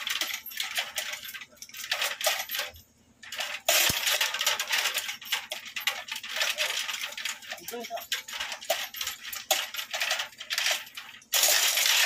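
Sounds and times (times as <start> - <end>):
chain hoist chains rattling: 0.0 - 12.0.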